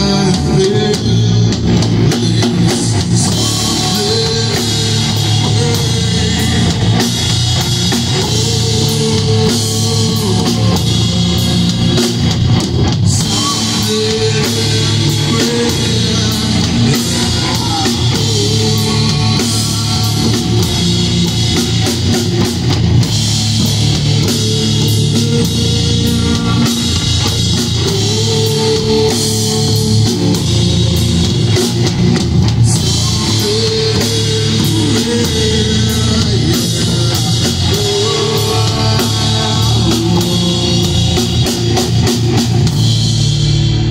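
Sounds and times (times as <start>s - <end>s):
doom metal band playing: 0.0s - 43.9s.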